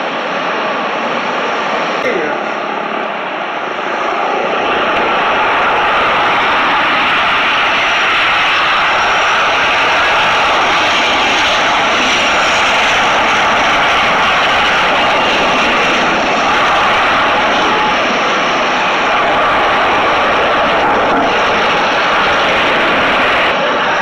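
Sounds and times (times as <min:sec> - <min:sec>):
faint high engine whine: 0:00.0 - 0:24.0
jet engines rushing: 0:00.0 - 0:24.0.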